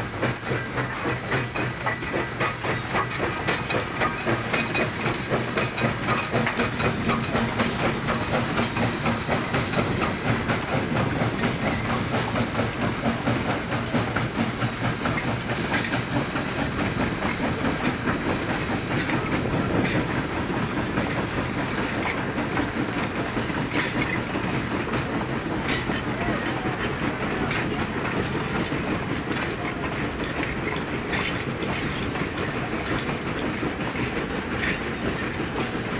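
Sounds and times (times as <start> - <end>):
steam train passing: 0.0 - 35.9
wheels clicking over rail joints: 0.2 - 35.9.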